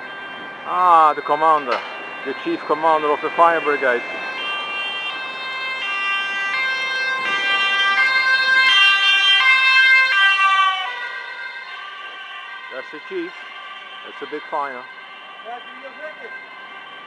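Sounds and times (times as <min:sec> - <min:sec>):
two-tone siren: 0:00.0 - 0:17.0.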